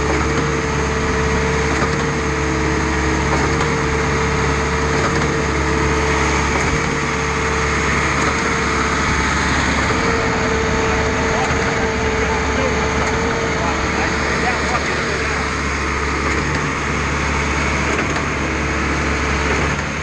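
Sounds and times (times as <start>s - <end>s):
concrete pump engine running: 0.0s - 20.0s
mid-pitched whine: 0.0s - 20.0s.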